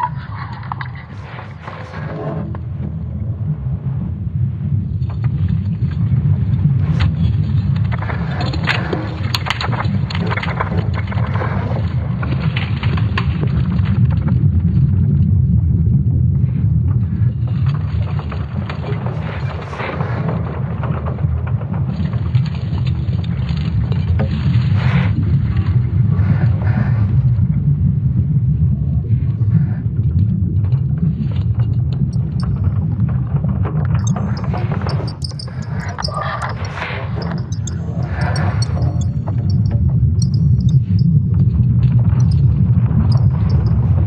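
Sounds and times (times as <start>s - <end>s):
crackles and rustling: 0.0s - 3.8s, 4.6s - 15.1s, 16.4s - 26.8s, 29.2s - 44.0s
deep steady rumble: 0.0s - 44.0s.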